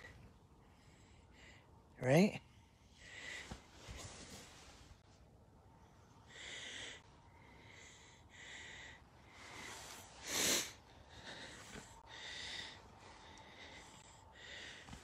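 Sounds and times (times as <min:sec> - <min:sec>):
person breathing: 0:00.0 - 0:01.9, 0:02.6 - 0:05.0, 0:05.6 - 0:15.0.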